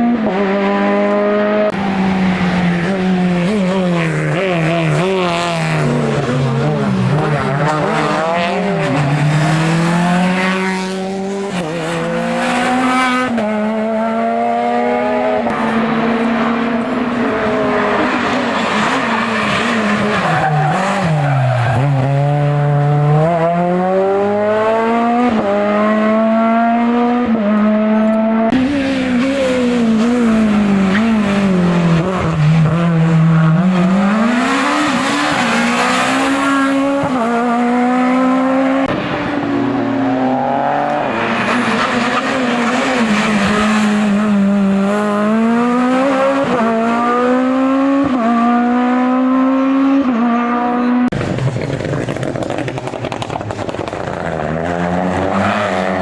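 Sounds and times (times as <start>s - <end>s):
race car engine at full effort: 0.0s - 56.0s.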